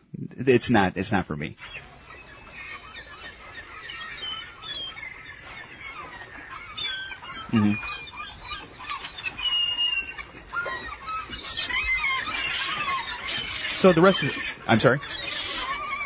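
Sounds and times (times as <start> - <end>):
seagulls calling: 0.8 - 16.0.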